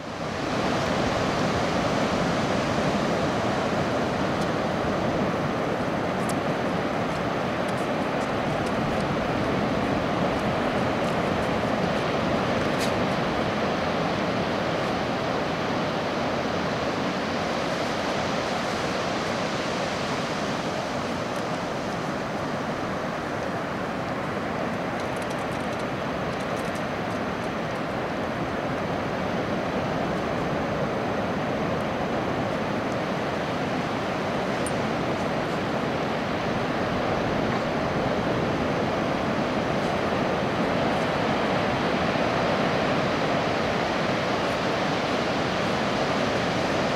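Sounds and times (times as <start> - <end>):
surf washing onto beach: 0.0 - 46.9.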